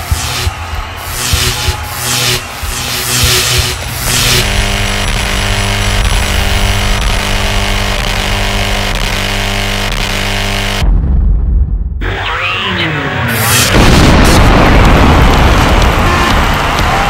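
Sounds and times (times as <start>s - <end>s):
low buzzing drone: 0.0s - 11.0s, 12.0s - 16.7s.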